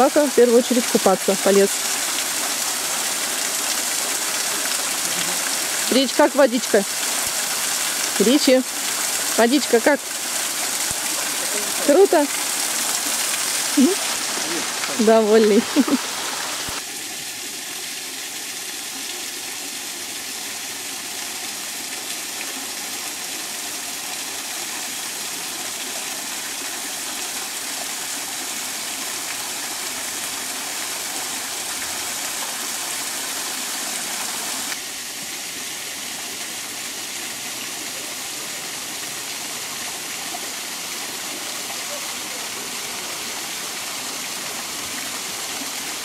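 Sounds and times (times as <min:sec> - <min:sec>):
small waterfall splashing: 0:00.0 - 0:46.0.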